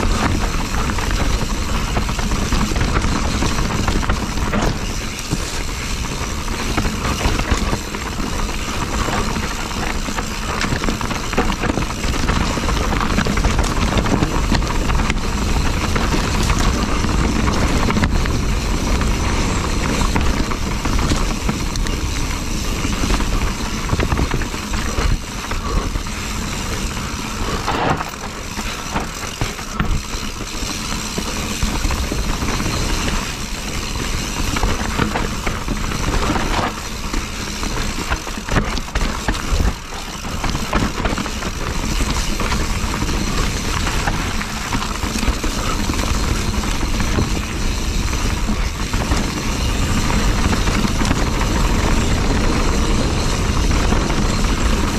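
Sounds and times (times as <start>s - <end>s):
tyres rolling on trail: 0.0s - 54.9s
wind over microphone: 0.0s - 54.9s.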